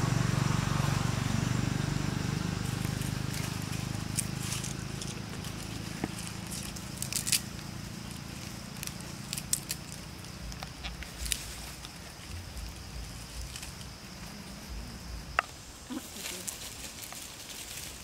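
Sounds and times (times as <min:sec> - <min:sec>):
dry leaves crackling: 0:00.3 - 0:18.0.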